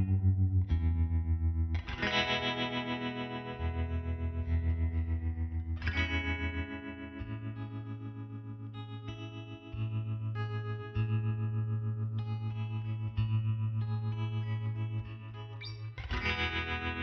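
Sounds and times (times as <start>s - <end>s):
distorted guitar chords: 0.0s - 17.0s.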